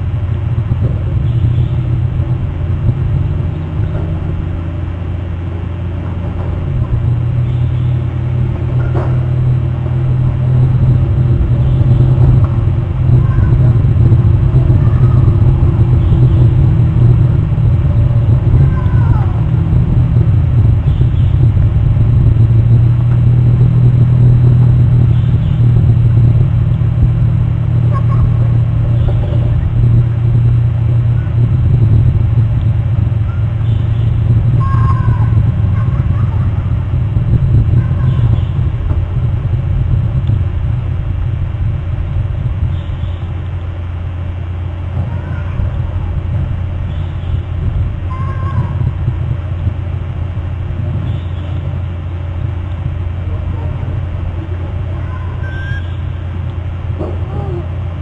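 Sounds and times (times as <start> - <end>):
low rumble with droning hum: 0.0 - 58.0.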